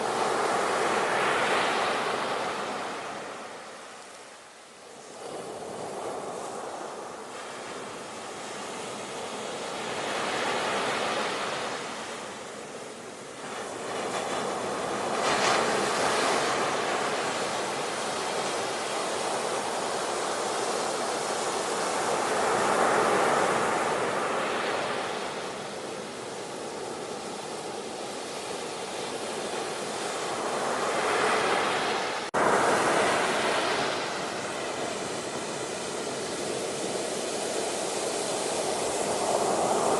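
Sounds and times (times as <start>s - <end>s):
ocean waves breaking: 5.0s - 39.9s.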